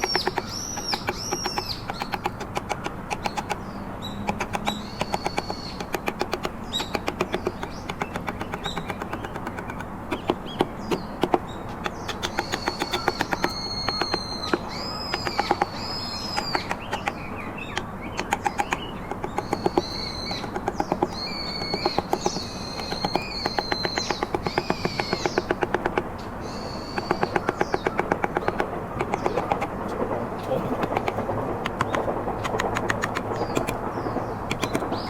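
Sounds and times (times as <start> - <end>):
mallet tapping chisel into wood: 0.0 - 26.3, 26.9 - 33.8, 34.4 - 35.0
bird whistling calls: 0.0 - 29.8.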